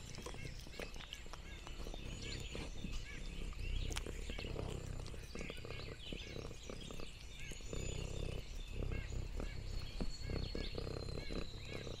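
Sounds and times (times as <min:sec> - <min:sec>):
cat chewing and licking food: 0:00.0 - 0:12.0.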